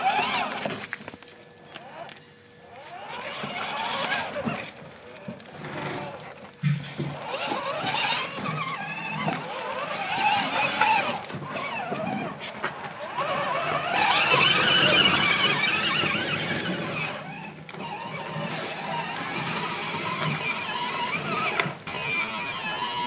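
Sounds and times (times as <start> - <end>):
toy car motors whining: 0.0 - 23.0.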